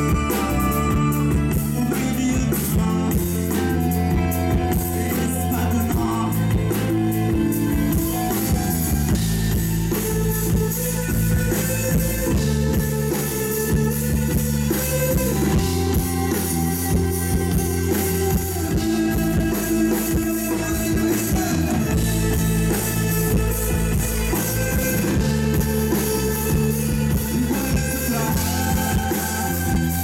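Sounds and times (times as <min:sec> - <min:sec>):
bass guitar: 0:00.0 - 0:30.0
drum kit beat: 0:00.0 - 0:30.0
electric guitars: 0:00.0 - 0:30.0
violin: 0:00.0 - 0:30.0.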